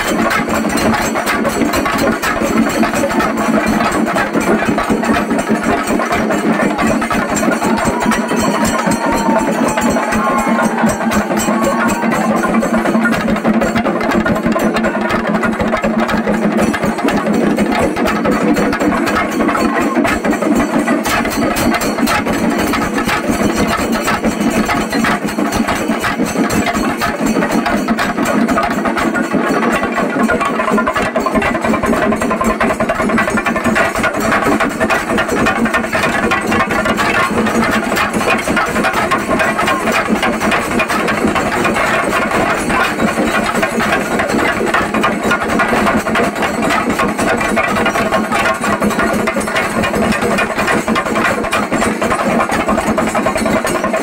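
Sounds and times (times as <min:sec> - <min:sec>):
drums beaten with sticks: 0:00.0 - 0:54.0.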